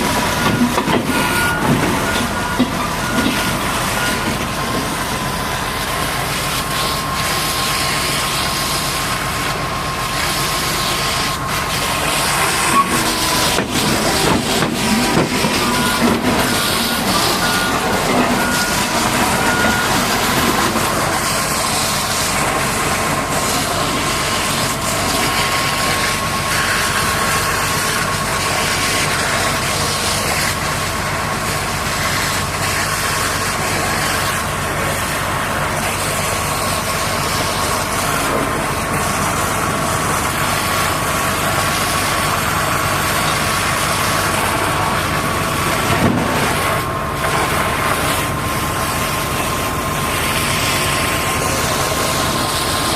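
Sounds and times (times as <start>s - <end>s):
heavy diesel engine running: 0.0s - 52.9s
high whine: 0.0s - 52.9s.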